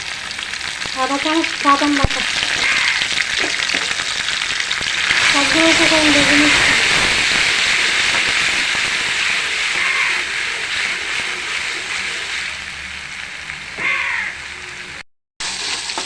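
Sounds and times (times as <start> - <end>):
pastes sizzling in hot oil: 0.0 - 16.0.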